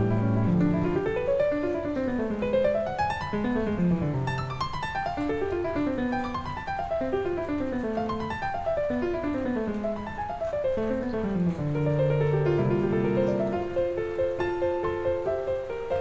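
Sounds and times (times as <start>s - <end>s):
solo classical piano: 0.0s - 16.0s.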